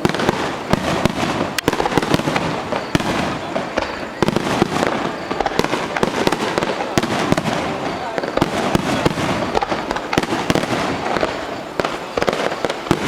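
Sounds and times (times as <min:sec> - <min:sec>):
fireworks cracks and pops: 0:00.0 - 0:13.0.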